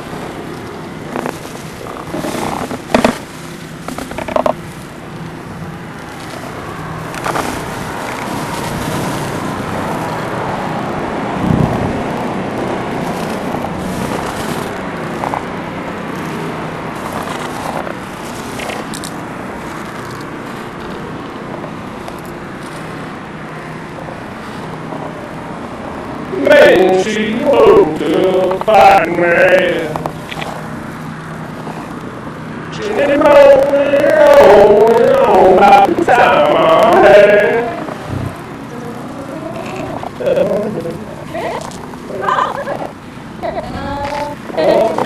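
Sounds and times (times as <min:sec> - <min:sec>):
vehicle passing: 0:00.0 - 0:45.0.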